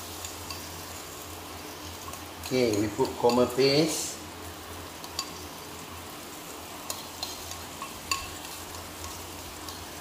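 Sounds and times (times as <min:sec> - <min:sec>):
onion frying in oil: 0:00.0 - 0:10.0.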